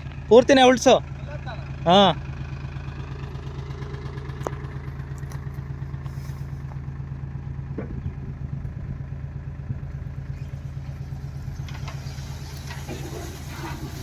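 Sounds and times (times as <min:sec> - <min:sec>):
diesel engine throbbing: 0:00.0 - 0:14.0.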